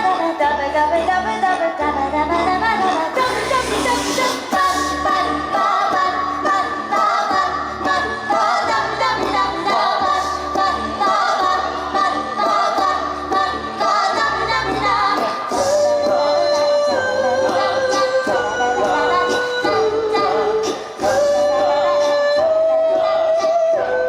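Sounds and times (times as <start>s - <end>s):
small choir singing in harmony: 0.0s - 24.0s.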